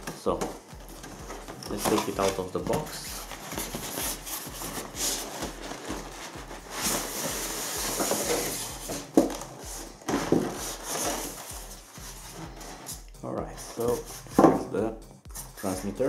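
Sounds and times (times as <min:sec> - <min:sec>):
foam scraping against cardboard: 0:01.0 - 0:13.0, 0:13.6 - 0:14.5.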